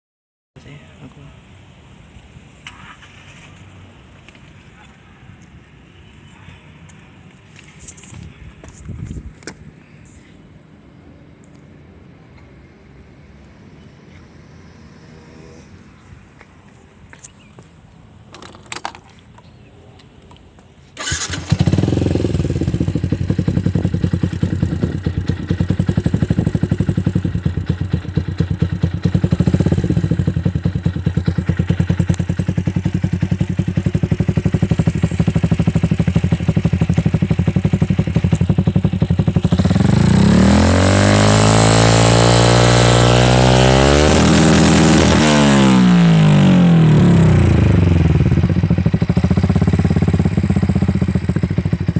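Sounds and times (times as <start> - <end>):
motorcycle engine idling and revving: 0.6 - 9.8, 12.8 - 51.9.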